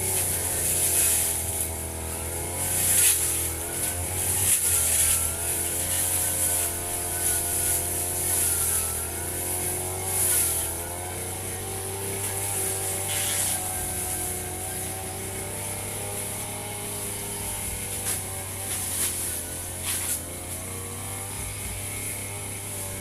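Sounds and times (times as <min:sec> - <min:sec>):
brush cutter engine running: 0:00.0 - 0:23.0
swish of cutting grass: 0:00.0 - 0:23.0.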